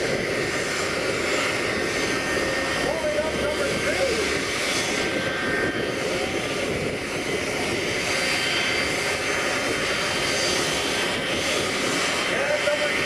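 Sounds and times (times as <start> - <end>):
faint high turbine whine: 0.0 - 13.0
jet engines rushing: 0.0 - 13.0.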